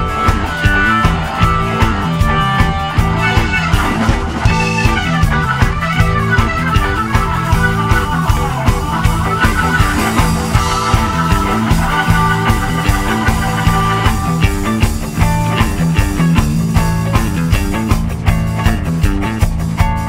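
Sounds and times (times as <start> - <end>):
drum kit: 0.0 - 20.0
electric bass: 0.0 - 20.0
electric guitar: 0.0 - 20.0.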